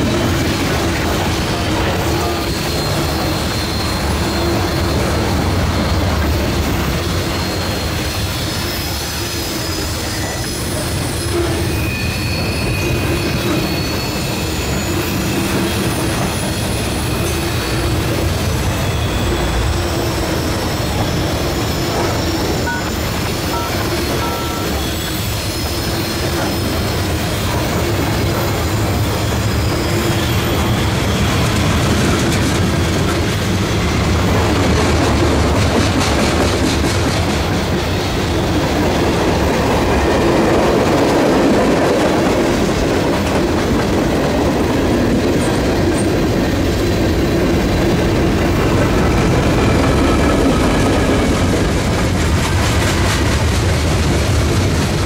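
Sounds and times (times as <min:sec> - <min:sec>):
wheel squeal: 0:00.0 - 0:53.2
freight train rumble and clatter: 0:00.0 - 0:55.0.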